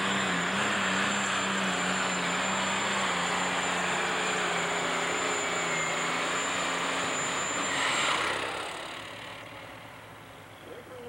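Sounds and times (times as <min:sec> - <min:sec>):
high whine: 0:00.0 - 0:10.3
pulling tractor engine roaring: 0:00.0 - 0:11.0.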